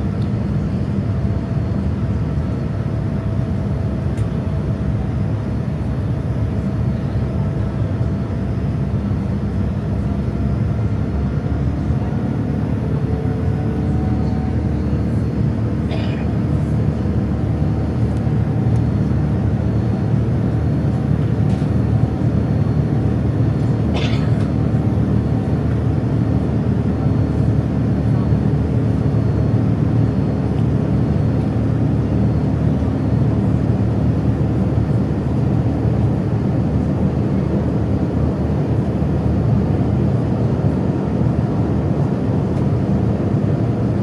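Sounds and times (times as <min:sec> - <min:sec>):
jet engine rumble: 0:00.0 - 0:44.0.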